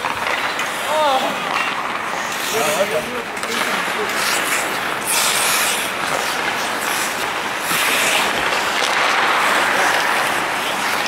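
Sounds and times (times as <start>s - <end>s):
skate blades scraping ice: 0.0s - 11.0s.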